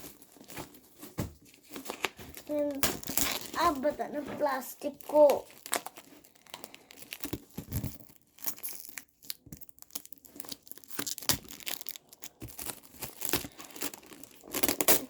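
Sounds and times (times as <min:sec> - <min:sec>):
plastic film tearing and crumpling: 0:00.0 - 0:15.0.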